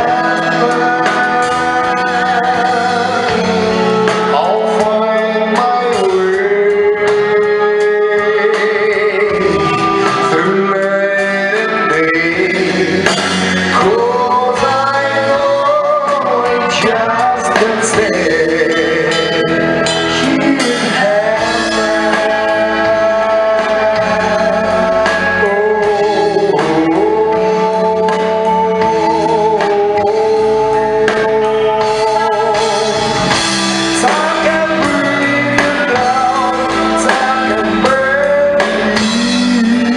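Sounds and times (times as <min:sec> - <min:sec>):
instrumental backing music: 0:00.0 - 0:39.9
person singing long notes: 0:00.0 - 0:39.9.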